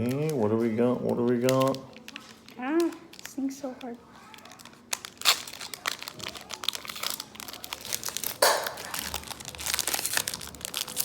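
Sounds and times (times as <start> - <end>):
wrapper crinkling: 0.0 - 11.0
wrapper ripping: 0.0 - 11.0.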